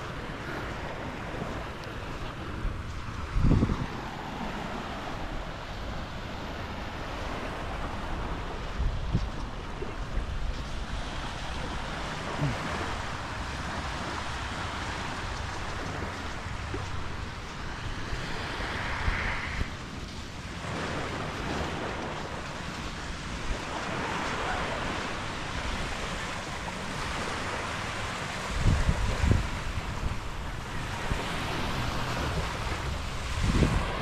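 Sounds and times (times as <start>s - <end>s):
waves washing on beach: 0.0s - 34.0s
wind on microphone: 0.0s - 34.0s.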